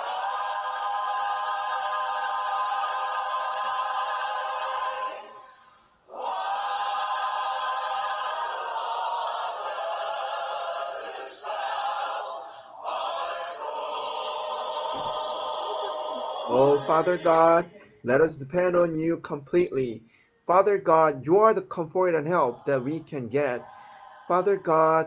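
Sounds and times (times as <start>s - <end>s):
choral music: 0.0s - 25.0s.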